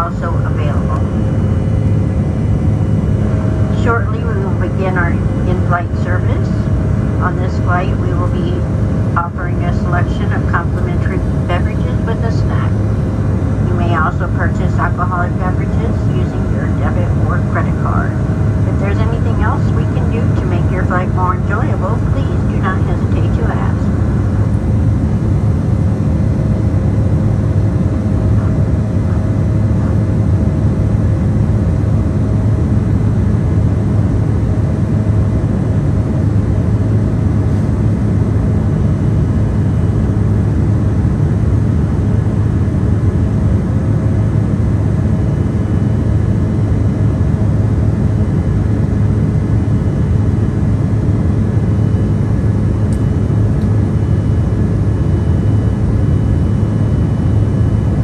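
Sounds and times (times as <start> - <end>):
airliner cabin noise: 0.0 - 58.0.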